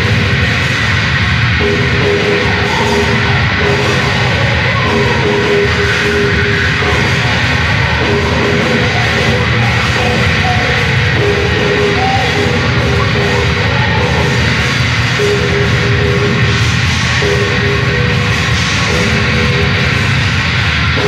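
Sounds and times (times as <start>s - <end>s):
heavy metal band playing live: 0.0s - 21.0s.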